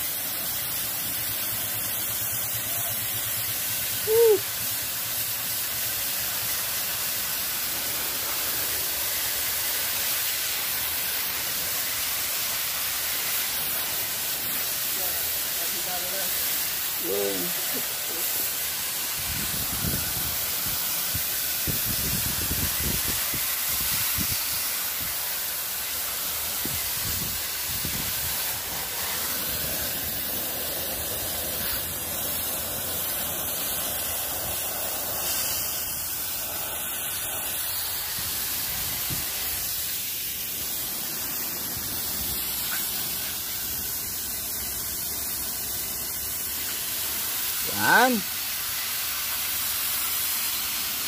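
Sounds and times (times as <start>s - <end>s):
hose water jet hissing: 0.0s - 51.0s.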